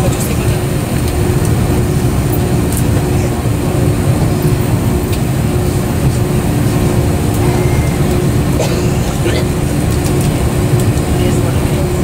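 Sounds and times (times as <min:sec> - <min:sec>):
air-conditioning rumble: 0:00.0 - 0:12.0.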